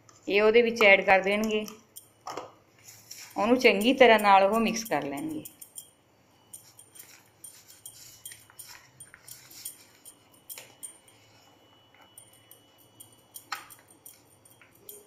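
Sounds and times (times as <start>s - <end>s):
metal bangle clinking on bowl: 1.3s - 2.2s, 2.8s - 15.0s.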